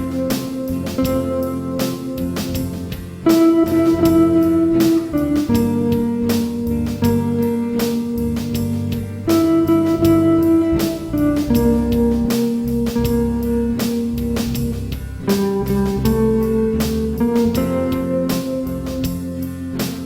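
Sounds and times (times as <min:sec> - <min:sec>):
backing track with drum beat: 0:00.0 - 0:20.0
guitar melody: 0:00.0 - 0:20.0.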